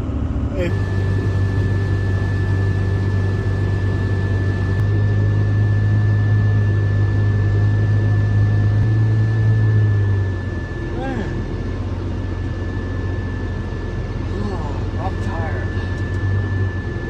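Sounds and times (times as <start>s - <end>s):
heavy vehicle engine drone: 0.0s - 17.0s
high whine: 0.0s - 17.0s.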